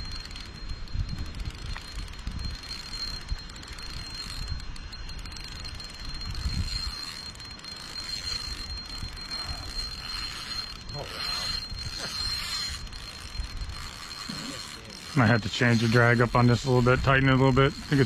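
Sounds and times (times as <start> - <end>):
fishing reel drag clicking: 0.0 - 18.0.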